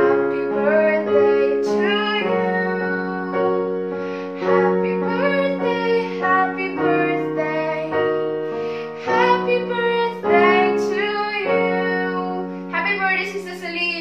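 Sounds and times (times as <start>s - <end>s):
electronic keyboard chords: 0.0s - 14.0s
girl singing: 0.0s - 14.0s.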